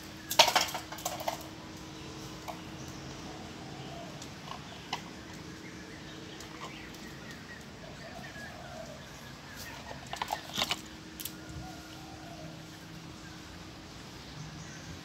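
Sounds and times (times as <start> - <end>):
faint bird calls: 2.0 - 15.0.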